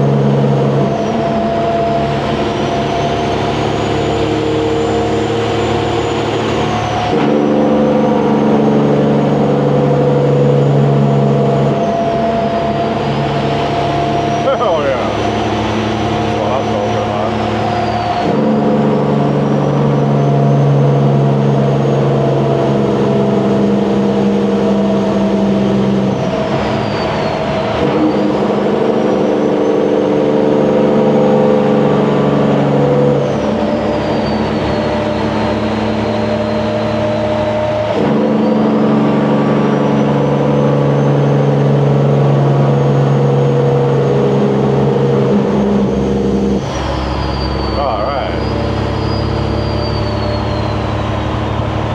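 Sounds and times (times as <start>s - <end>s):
truck diesel engine pulling hard: 0.0s - 51.9s
turbo whistle: 0.0s - 51.9s.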